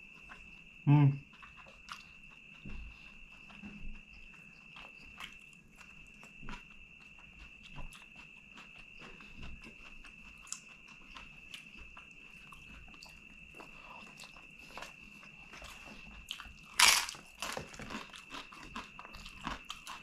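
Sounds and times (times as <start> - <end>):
chewing food: 0.0 - 20.0.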